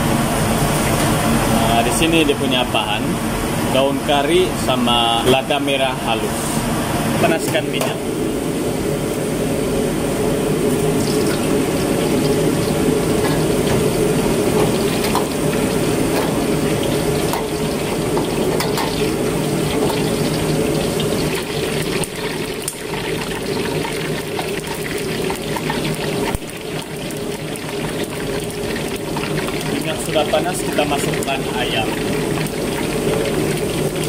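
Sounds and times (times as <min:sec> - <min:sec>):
gas burner roaring: 0:00.0 - 0:34.0.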